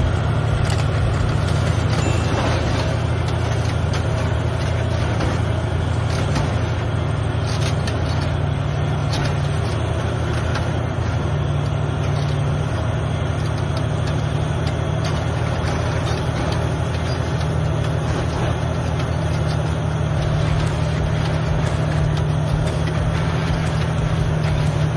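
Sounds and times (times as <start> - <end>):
bulldozer diesel engine droning: 0.0 - 24.9.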